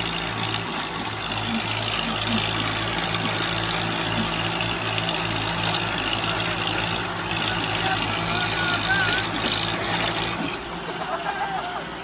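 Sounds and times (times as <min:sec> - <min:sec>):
tractor diesel engines under load: 0:00.0 - 0:12.0
tyres spinning in dirt: 0:00.0 - 0:12.0.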